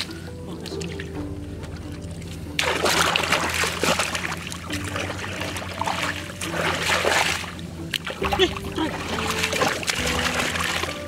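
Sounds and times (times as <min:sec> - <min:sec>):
low hum: 0:00.0 - 0:11.0
water sloshing and splashing: 0:00.0 - 0:11.0.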